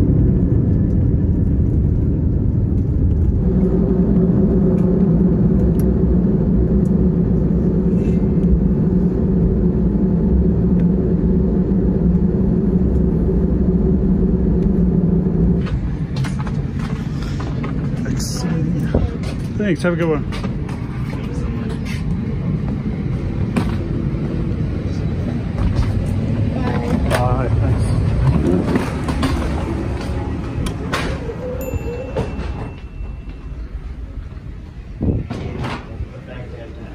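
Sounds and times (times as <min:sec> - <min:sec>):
jet cabin rumble: 0:00.0 - 0:36.9
low hum: 0:00.0 - 0:36.9.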